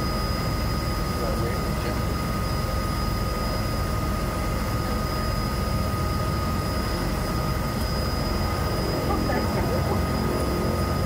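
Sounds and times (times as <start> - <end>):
propeller plane engine rumbling: 0.0 - 11.0
thin steady tones: 0.0 - 11.0.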